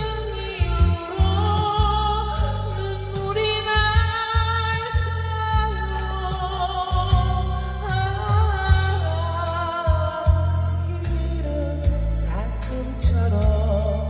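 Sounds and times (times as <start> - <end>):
slow trot ballad: 0.0 - 14.0.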